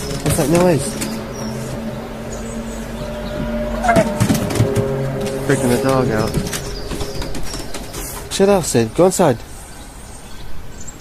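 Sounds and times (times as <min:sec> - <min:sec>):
low rumble: 0:00.0 - 0:10.8
low two-tone drone: 0:00.0 - 0:11.0.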